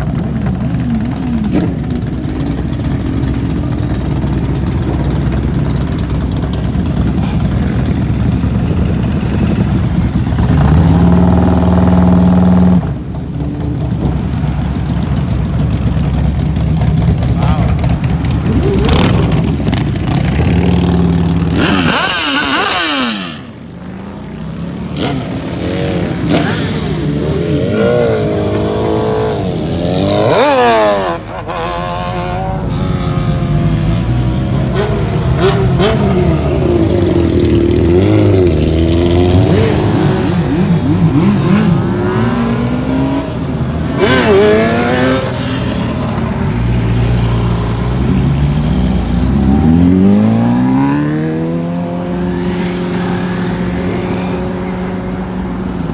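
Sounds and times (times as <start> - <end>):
motorcycle engines revving past: 0.0 - 55.9.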